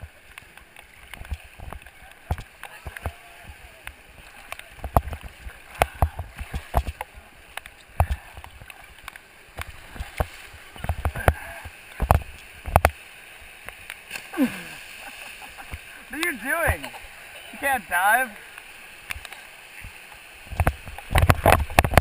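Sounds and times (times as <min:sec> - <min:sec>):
rapids rushing over rocks: 0:00.0 - 0:22.0.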